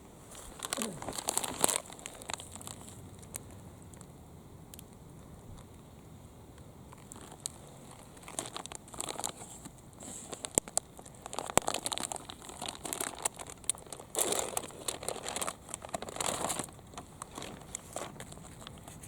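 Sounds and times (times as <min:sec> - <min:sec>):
crinkling rustling handling noise: 0:00.2 - 0:03.6, 0:06.9 - 0:19.0.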